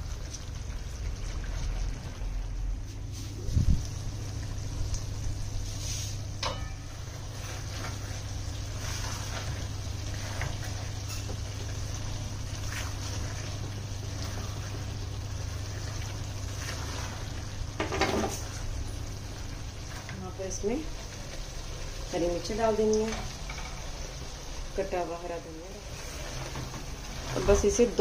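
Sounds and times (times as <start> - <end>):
curry cooking in a pan: 0.0 - 28.0
steady low hum: 0.0 - 28.0.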